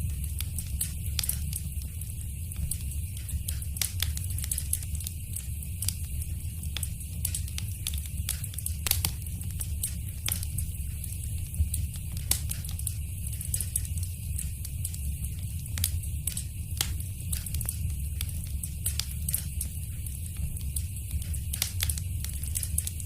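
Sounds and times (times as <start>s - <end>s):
low steady rumble: 0.0s - 23.0s
wood fire crackling: 0.0s - 23.0s.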